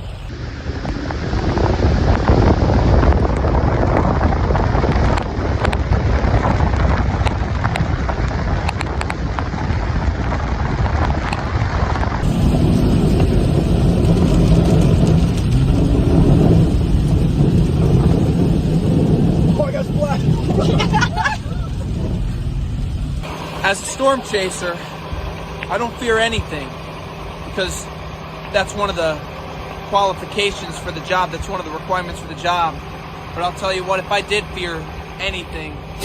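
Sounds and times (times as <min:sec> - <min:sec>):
strong wind on microphone: 0:00.0 - 0:36.0.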